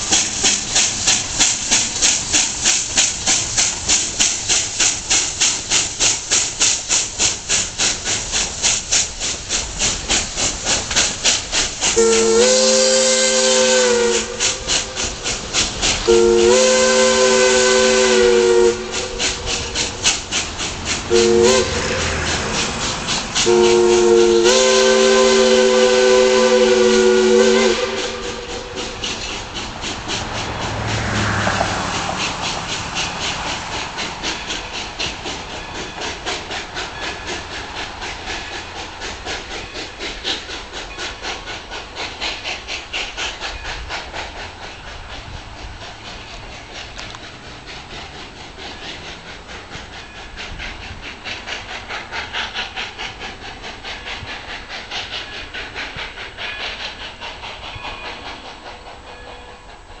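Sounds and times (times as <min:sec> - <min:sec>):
steam locomotive exhaust barking: 0:00.0 - 1:00.0.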